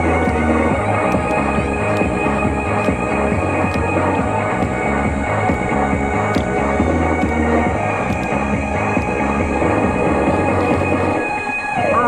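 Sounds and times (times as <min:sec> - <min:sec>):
dance music over a loudspeaker: 0:00.0 - 0:12.0.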